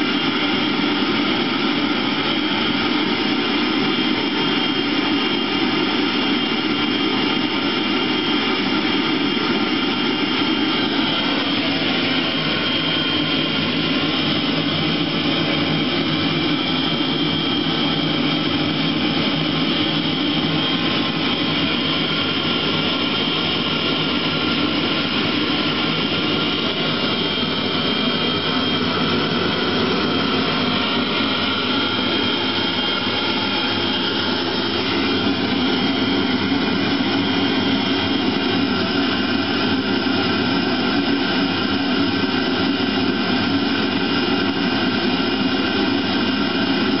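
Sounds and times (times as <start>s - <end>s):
heater burner roaring: 0.0s - 47.0s
high whine: 0.0s - 47.0s.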